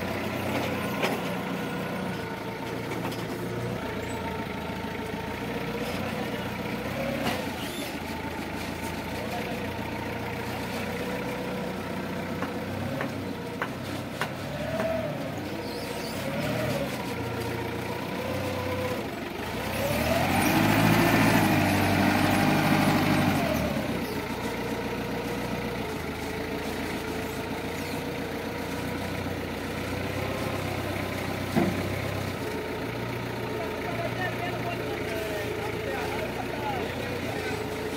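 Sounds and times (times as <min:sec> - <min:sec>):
forklift engine idling and revving: 0:00.0 - 0:37.9.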